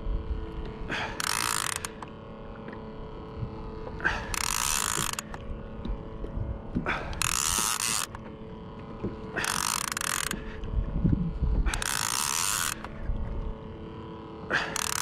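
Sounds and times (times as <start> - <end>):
fishing reel gears whirring: 0.0 - 15.0.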